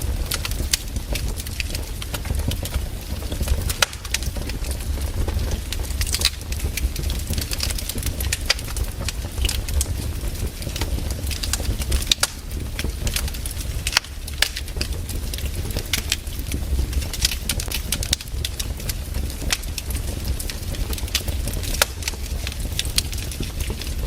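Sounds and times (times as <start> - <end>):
low rumble of fire: 0.0 - 24.0
wood fire crackling and popping: 0.0 - 24.0.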